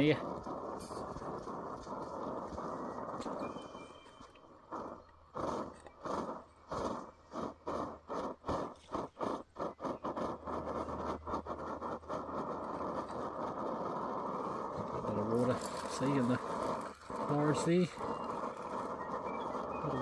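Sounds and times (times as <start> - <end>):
camping stove burner sputtering: 0.0 - 20.0.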